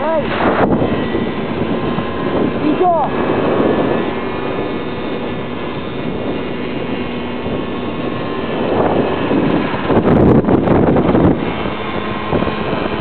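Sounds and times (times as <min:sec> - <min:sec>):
scooter engines running: 0:00.0 - 0:13.0
wind rushing past microphone: 0:00.0 - 0:13.0.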